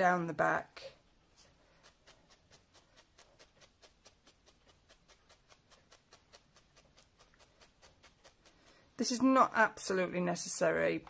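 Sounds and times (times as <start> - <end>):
felting needle ticks: 1.6 - 10.6.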